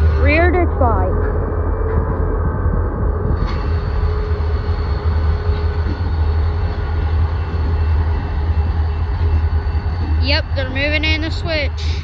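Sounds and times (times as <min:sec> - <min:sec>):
constant whine: 0:00.0 - 0:12.0
diesel locomotive engines rumbling: 0:00.0 - 0:12.0.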